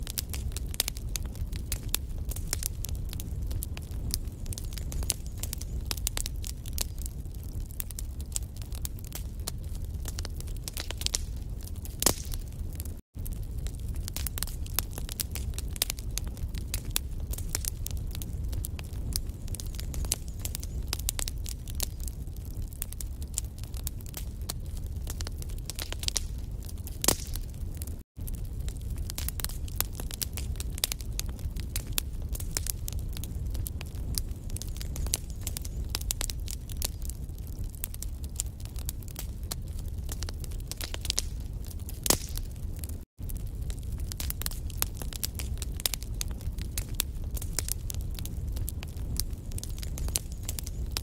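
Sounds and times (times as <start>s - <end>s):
logs crackling and popping: 0.0s - 51.0s
low rumble of flames: 0.0s - 51.0s.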